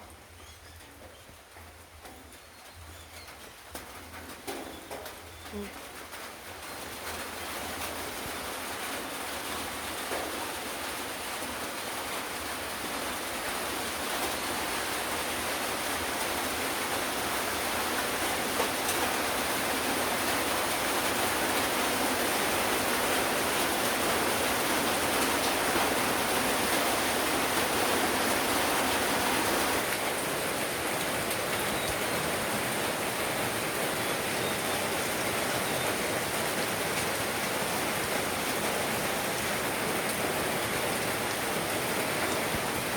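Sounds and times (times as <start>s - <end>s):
rain downpour: 0.0s - 42.9s.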